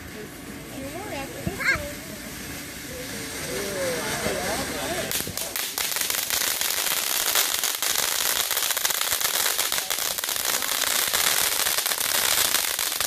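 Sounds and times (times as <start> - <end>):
firework hissing and crackling: 0.0 - 13.0.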